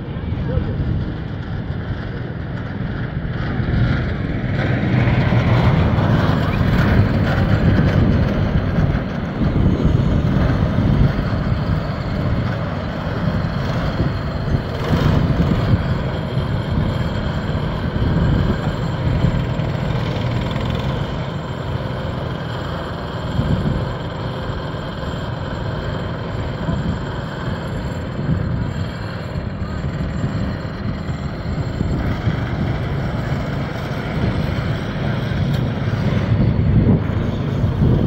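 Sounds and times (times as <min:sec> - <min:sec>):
race car engines droning: 0:00.0 - 0:38.0.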